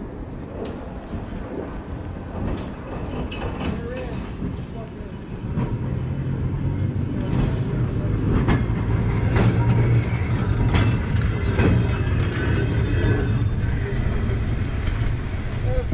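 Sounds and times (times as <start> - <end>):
steel wheels rolling on rails: 0.5 - 15.9.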